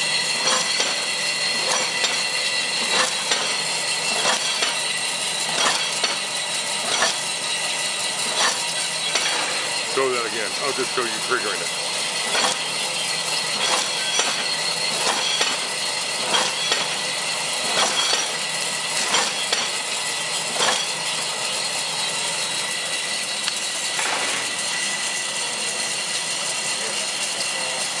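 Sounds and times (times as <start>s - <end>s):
conveyor machine whirring: 0.0s - 28.0s.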